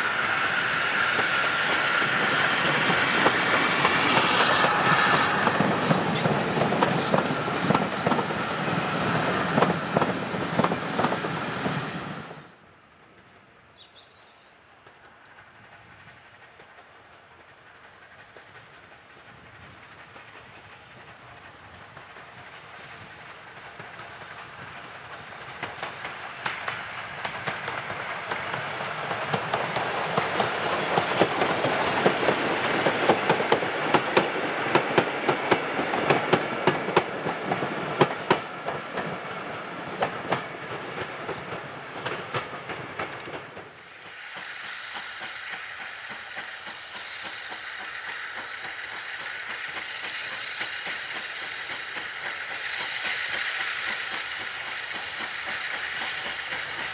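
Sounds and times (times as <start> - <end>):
train wheels clicking over rail joints: 0.0 - 12.5, 15.0 - 56.9
steam hissing from locomotive: 0.0 - 12.7, 14.8 - 56.9.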